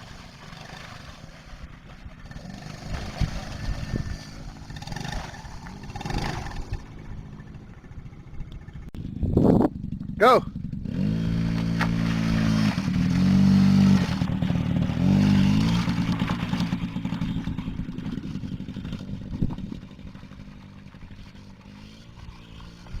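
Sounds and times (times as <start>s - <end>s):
small atv engine revving: 0.0s - 23.0s.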